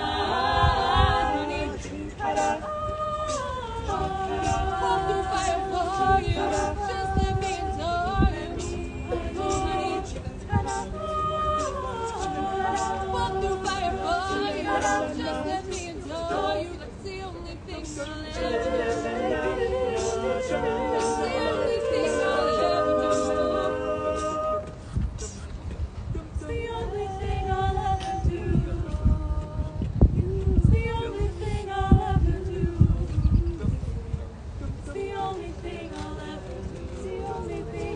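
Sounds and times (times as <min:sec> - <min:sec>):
a cappella group singing: 0:00.0 - 0:37.9.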